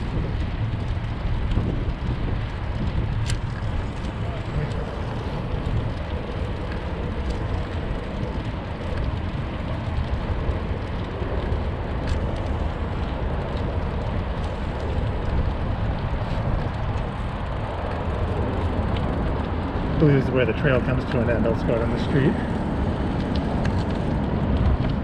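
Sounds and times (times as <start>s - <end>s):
bike tyres on paved path: 0.0s - 25.0s
wind rumble on microphone: 0.0s - 25.0s.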